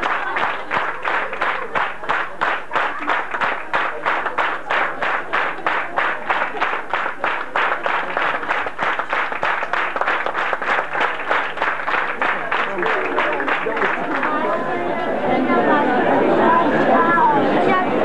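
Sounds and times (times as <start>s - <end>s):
audience clapping in unison: 0.0s - 14.6s.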